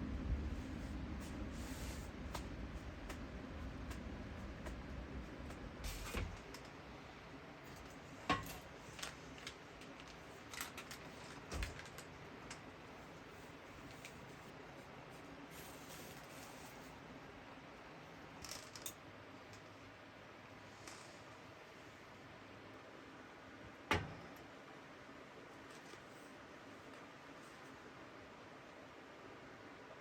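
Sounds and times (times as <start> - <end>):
faint steady background noise: 0.0 - 30.0.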